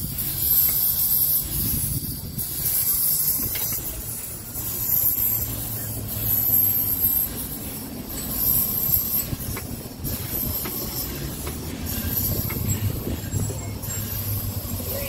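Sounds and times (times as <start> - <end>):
steam hissing: 0.0 - 15.0
steam train rumble: 0.0 - 15.0.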